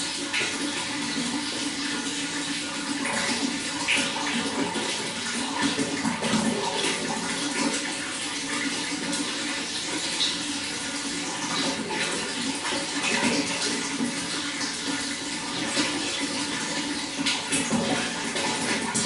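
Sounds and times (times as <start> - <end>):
running water gurgling: 0.0 - 19.0.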